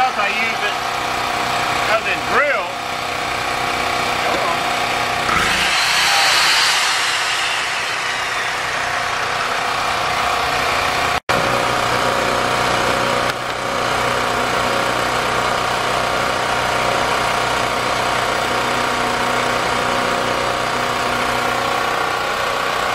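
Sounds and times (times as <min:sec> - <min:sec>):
portable generator running: 0:00.0 - 0:22.9.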